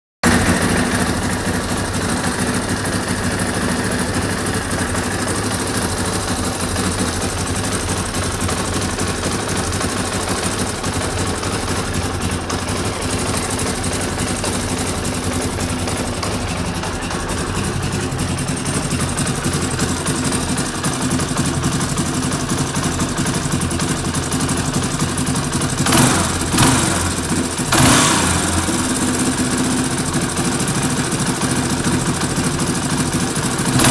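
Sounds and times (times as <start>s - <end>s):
engine throttle blips: 0.2s - 33.9s
quad engine idling: 0.2s - 33.9s.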